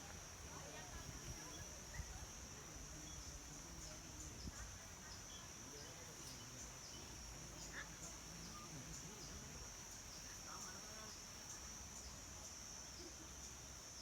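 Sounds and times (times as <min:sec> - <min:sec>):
faint low voices: 0:00.0 - 0:14.0
insects droning: 0:00.0 - 0:14.0.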